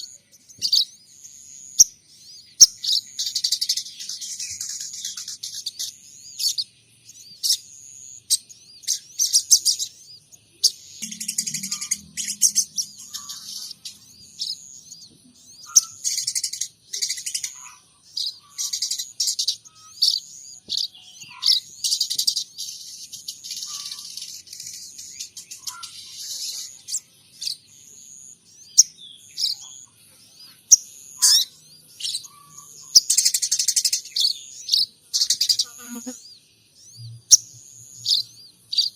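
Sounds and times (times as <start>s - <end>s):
songbird chirping and twittering: 0.0s - 38.9s.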